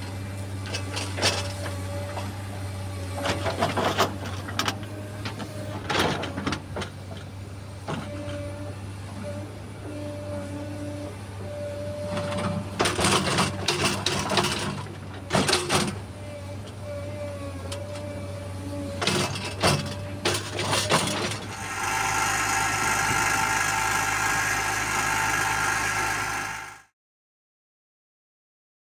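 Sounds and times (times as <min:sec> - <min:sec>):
excavator idling: 0:00.0 - 0:26.9.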